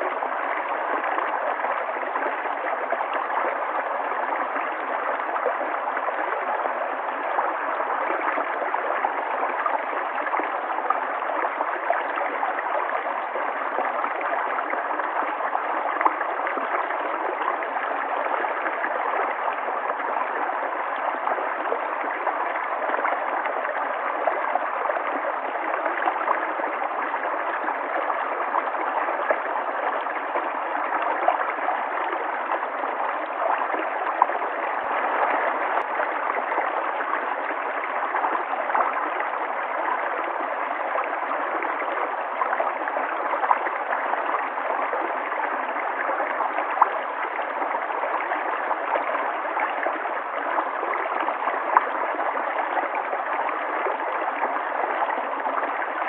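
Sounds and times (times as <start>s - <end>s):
water gurgles and splashes: 0.0s - 56.0s.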